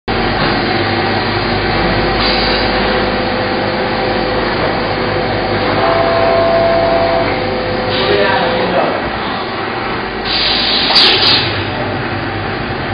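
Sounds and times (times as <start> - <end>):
higher machine tone: 0.1 - 10.8
machine shop machinery running: 0.1 - 12.9.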